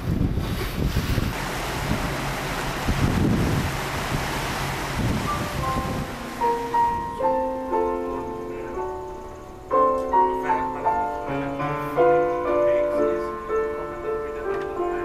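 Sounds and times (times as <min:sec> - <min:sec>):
wind and sea hiss: 0:00.0 - 0:15.0
slow piano music: 0:01.4 - 0:15.0.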